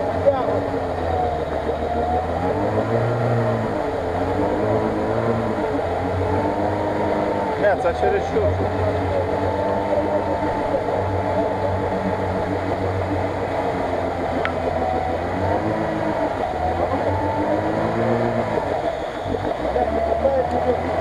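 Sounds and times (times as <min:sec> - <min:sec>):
car engine revving under load: 0:00.0 - 0:21.0
wheels spinning through mud and water: 0:00.0 - 0:21.0.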